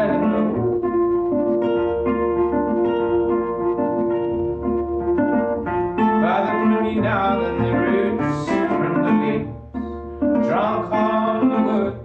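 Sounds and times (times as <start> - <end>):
resonator guitar fingerpicked: 0.0 - 12.0.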